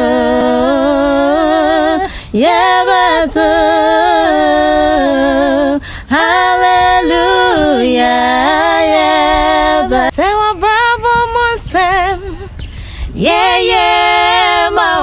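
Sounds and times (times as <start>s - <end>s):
two voices singing in harmony: 0.0s - 15.0s.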